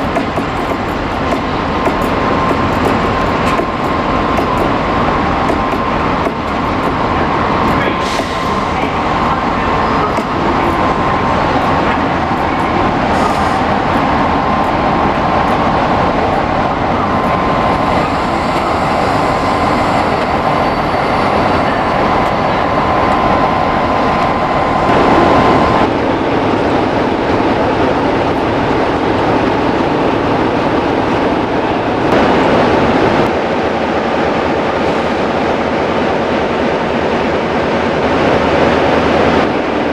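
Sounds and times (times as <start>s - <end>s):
high whining tone: 0.0s - 32.4s
train rumbling past: 0.0s - 39.9s.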